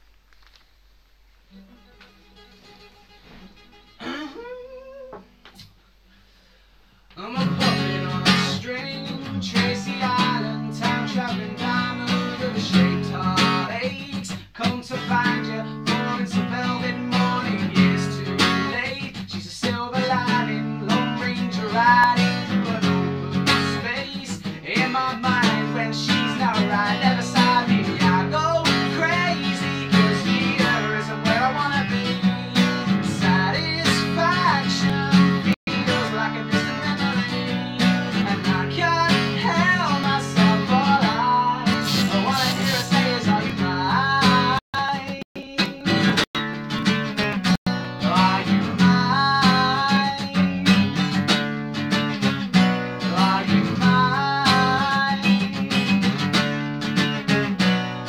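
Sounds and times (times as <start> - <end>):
acoustic guitar strummed: 1.5 - 4.6, 7.2 - 58.0
man singing: 7.1 - 46.8, 47.4 - 51.3, 52.9 - 56.4.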